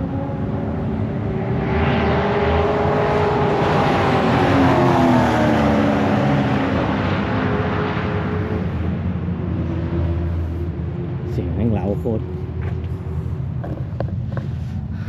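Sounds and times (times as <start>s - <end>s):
race car engine passing: 0.0s - 14.3s.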